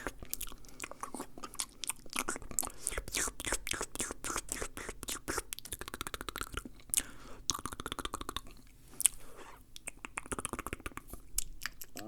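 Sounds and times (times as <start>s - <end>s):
wet mouth clicks and smacks: 0.0s - 12.0s
sharp mouth snap: 2.2s - 12.0s.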